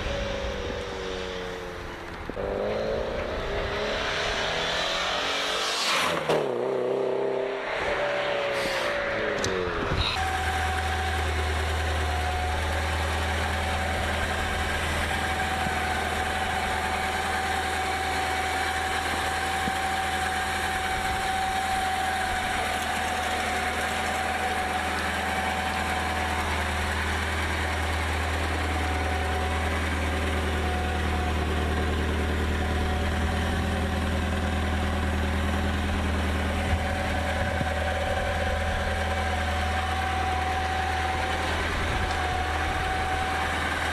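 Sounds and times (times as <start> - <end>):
car engine idling: 0.0 - 5.6, 6.3 - 43.9.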